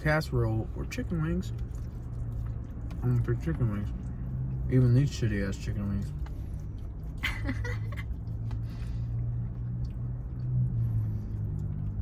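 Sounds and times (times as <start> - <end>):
chewing food up close: 0.0 - 12.0.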